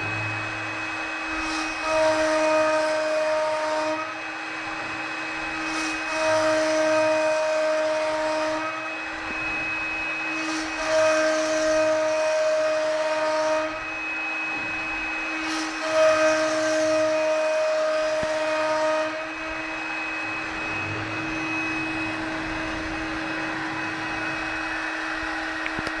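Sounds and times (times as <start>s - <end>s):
wood-carving router whine: 0.0s - 26.0s.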